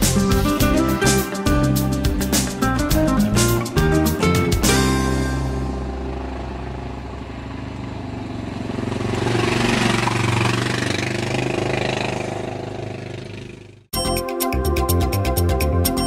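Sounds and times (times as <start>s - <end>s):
motorcycle engine running: 0.0s - 13.9s
road noise: 0.0s - 13.9s.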